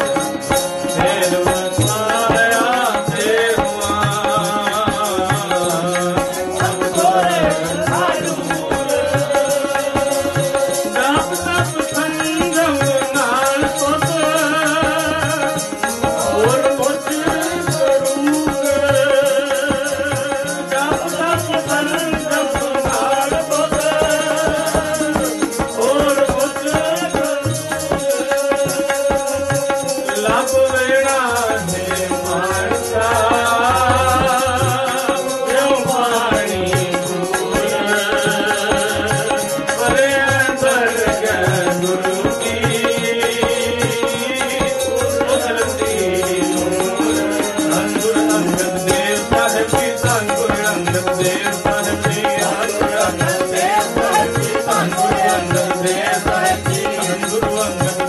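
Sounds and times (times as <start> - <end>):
harmonium held note: 0.0 - 58.0
man singing: 0.0 - 58.0.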